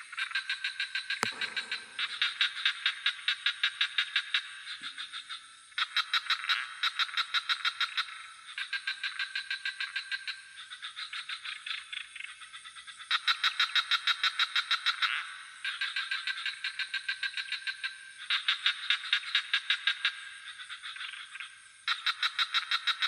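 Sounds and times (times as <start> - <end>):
chorus of frogs calling: 0.0 - 23.0
high insect hum: 0.0 - 23.0.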